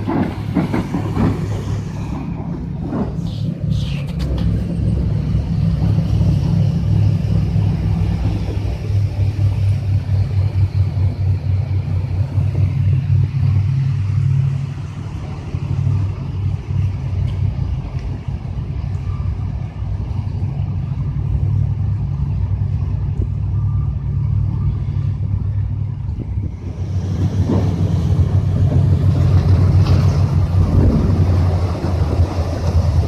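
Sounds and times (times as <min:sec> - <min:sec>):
ship rumbling through ice: 0:00.0 - 0:33.0.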